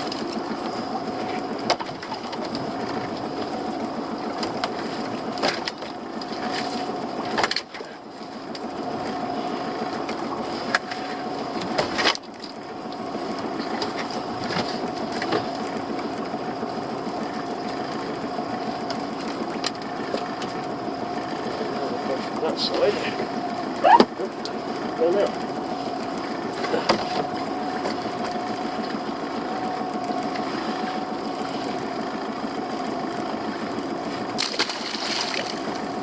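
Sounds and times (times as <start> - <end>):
boat motor running: 0.0 - 36.0.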